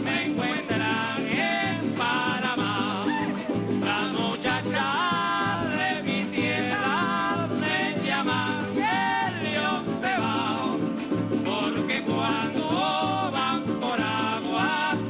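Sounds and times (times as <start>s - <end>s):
hand drum: 0.0s - 15.0s
several voices singing: 0.0s - 15.0s
strummed string instruments: 0.0s - 15.0s.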